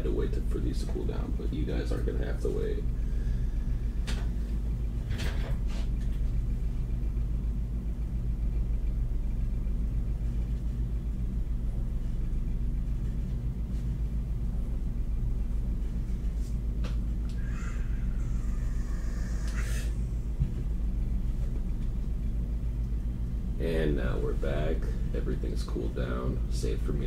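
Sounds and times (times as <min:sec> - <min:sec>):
burner and ventilation hum: 0:00.0 - 0:27.0.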